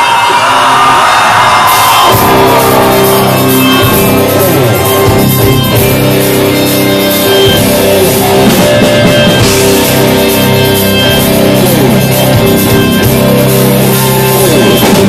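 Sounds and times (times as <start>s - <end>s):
live rock band instrumental: 1.4s - 15.0s.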